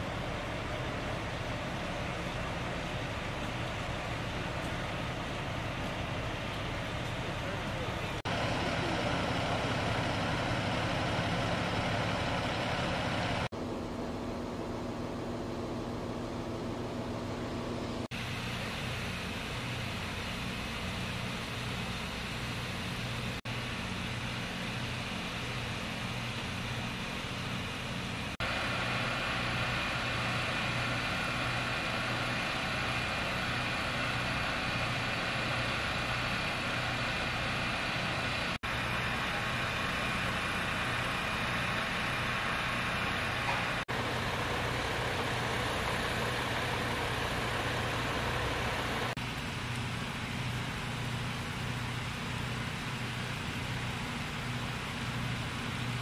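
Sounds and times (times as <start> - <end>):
fire engine humming: 0.0 - 56.0.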